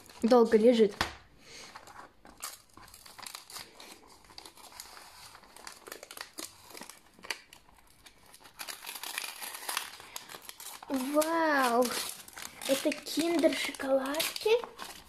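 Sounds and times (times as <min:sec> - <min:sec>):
wrapping paper crinkling and tearing: 0:00.0 - 0:01.0, 0:01.6 - 0:15.0.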